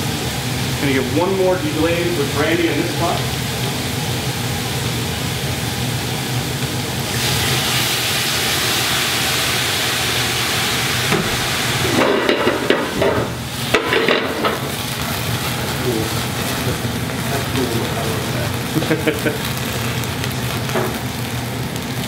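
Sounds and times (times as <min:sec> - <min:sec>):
flambe flaring with crackling: 0:00.0 - 0:22.0
liquid sizzling in hot pan: 0:00.0 - 0:22.0.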